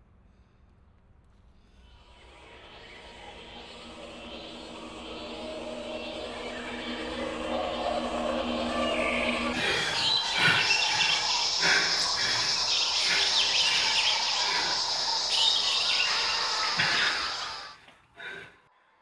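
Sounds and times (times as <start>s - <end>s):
chirps crackles and swishes: 1.6s - 17.9s
steady shrill whine: 1.7s - 17.9s.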